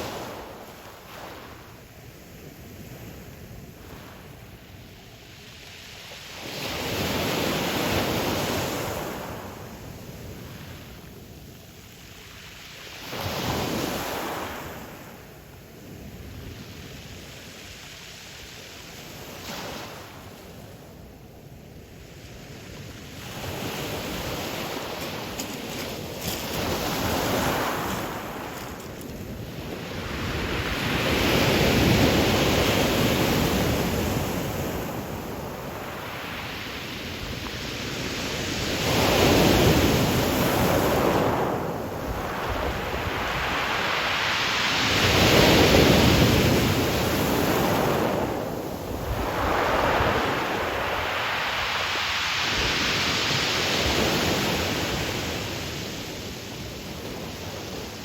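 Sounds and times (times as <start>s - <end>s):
surf washing up pebble beach: 0.0s - 11.5s, 12.1s - 21.0s, 21.9s - 58.0s.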